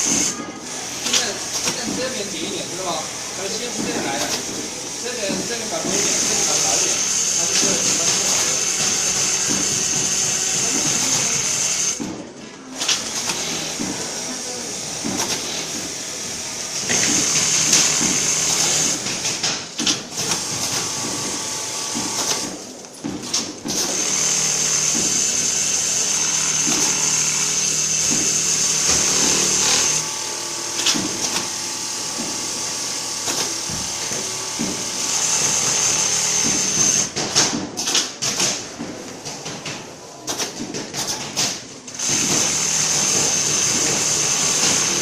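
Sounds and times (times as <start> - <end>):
sewing machine whining: 0.0 - 12.0, 12.8 - 37.2, 41.9 - 45.0.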